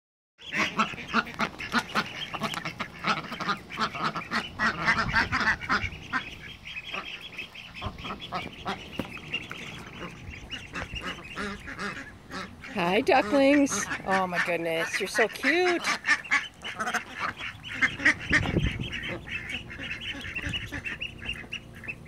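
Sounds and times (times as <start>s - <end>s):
ducks quacking: 0.4s - 22.0s.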